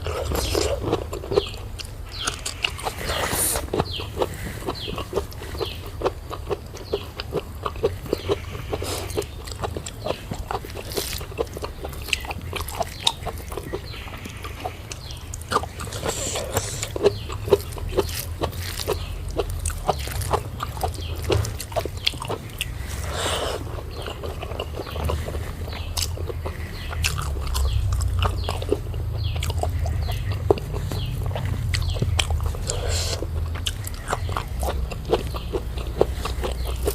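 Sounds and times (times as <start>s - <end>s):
wet chewing and lip-smacking: 0.0s - 36.9s.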